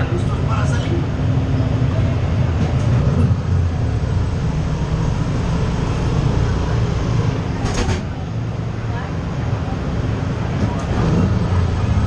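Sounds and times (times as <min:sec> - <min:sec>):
ride car rumbling on track: 0:00.0 - 0:12.0.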